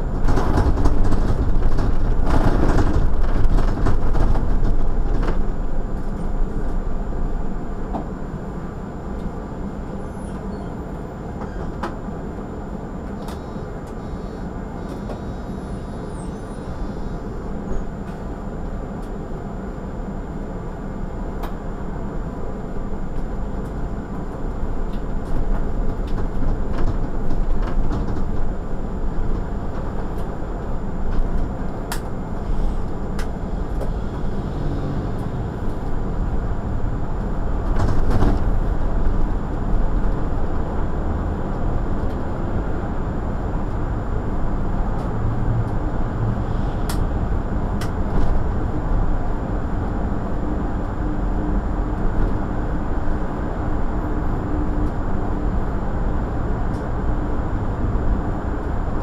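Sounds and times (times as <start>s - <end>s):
bus engine and road noise: 0.0s - 59.0s.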